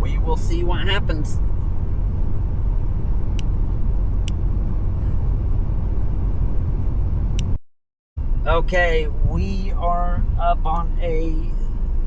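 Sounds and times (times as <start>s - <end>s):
car road and engine rumble: 0.0s - 7.6s, 8.2s - 12.0s.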